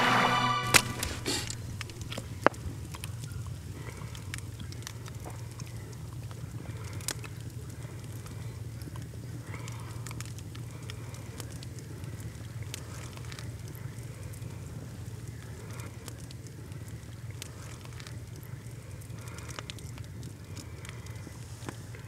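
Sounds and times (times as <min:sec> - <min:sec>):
wood fire crackling and popping: 0:00.4 - 0:22.0.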